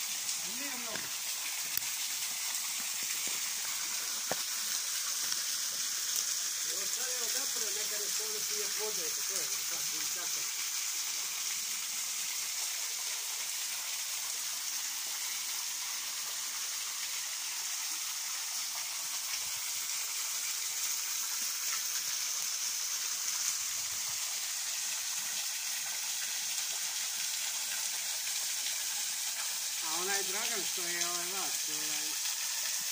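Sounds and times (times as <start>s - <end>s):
waterfall splashing onto stones: 0.0s - 32.9s.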